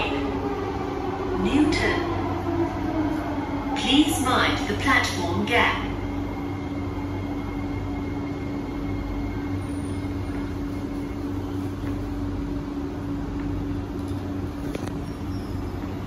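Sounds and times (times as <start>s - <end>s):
air conditioning low drone: 0.0s - 16.0s.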